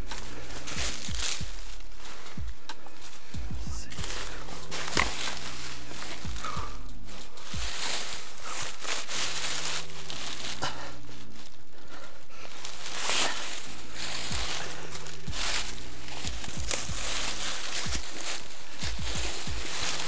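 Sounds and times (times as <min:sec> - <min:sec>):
footsteps and gear knocking: 0:00.0 - 0:10.7, 0:12.8 - 0:20.0
clothing and brush rustling: 0:00.0 - 0:20.0.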